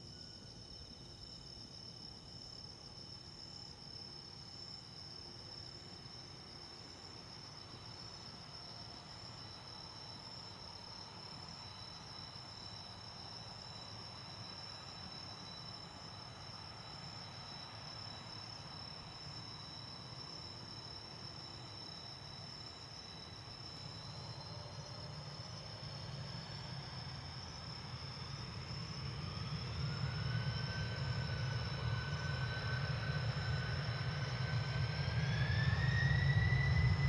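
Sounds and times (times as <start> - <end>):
night insects trilling: 0.0 - 37.0.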